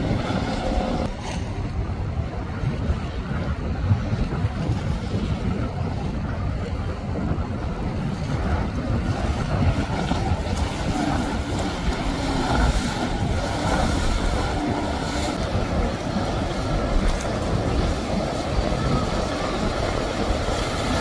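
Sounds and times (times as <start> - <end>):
outboard motor engine drone: 0.0 - 21.0
water splashing against hull: 0.0 - 21.0
wind rumbling on microphone: 0.0 - 21.0.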